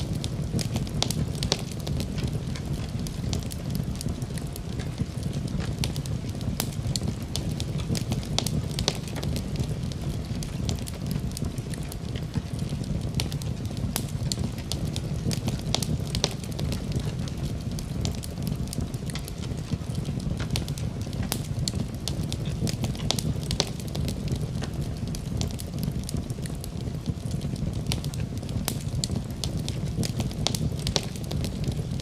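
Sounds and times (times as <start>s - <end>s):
fire popping: 0.0s - 32.0s
fire rumbling: 0.0s - 32.0s.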